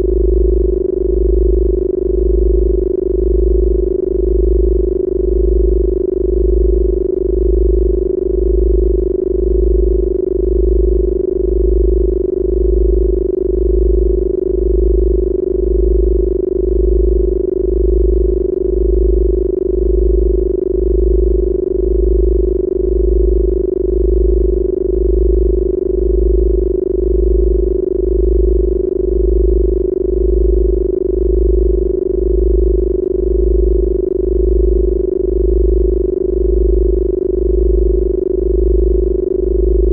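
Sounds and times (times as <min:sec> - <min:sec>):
pulsing low hum: 0:00.0 - 0:39.9
steady pure tone: 0:00.0 - 0:39.9.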